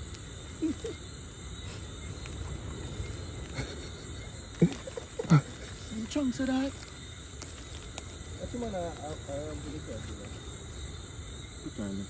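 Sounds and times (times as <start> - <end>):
high-pitched insect drone: 0.0 - 12.0
low rumbling outdoor noise: 0.0 - 12.0.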